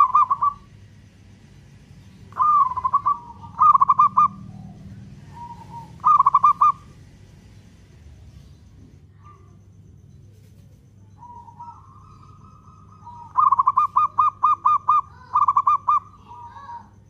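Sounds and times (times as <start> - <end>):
dove soft trill: 0.0 - 17.0.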